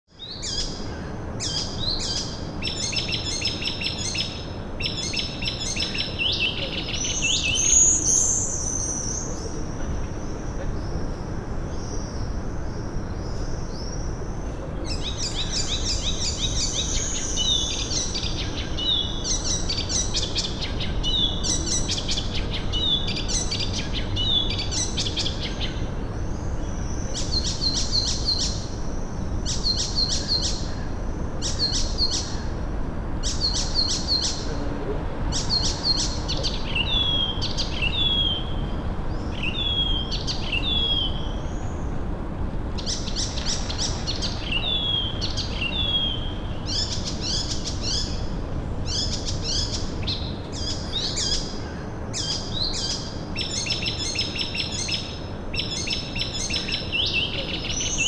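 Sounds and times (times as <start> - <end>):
songbirds chirping and trilling: 0.1 - 58.0
low background hiss: 0.2 - 58.0.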